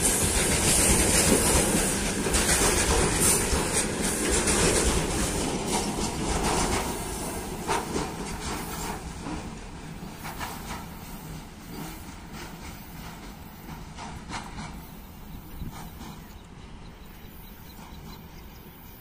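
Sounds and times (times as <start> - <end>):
wheels clicking over rail joints: 0.0 - 16.6
train wheels rumbling on rails: 0.0 - 19.0.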